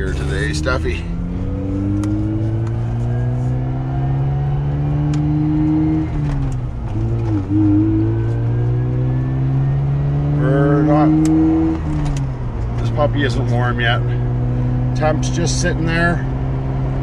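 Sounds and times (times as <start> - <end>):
rotary car engine accelerating: 0.0 - 17.0.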